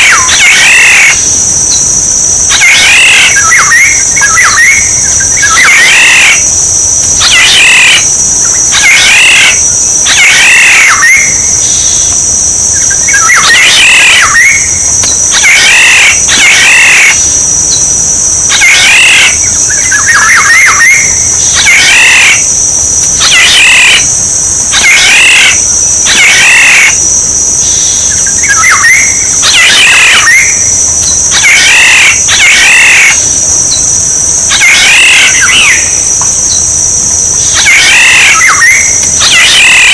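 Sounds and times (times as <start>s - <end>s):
bird whistled calls: 0.0s - 6.5s, 7.2s - 17.8s, 18.5s - 22.6s, 23.2s - 27.0s, 27.6s - 36.7s, 37.4s - 39.9s.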